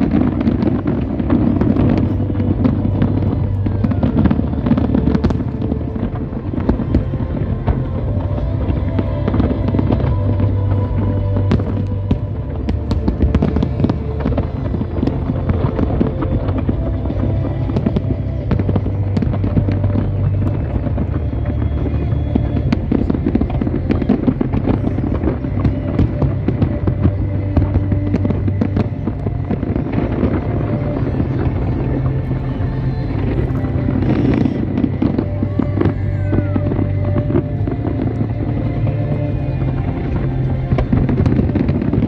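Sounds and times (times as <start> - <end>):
fireworks bursting and crackling: 0.0 - 42.0
low rumble: 0.0 - 42.0
sharp fireworks bangs: 0.0 - 42.0.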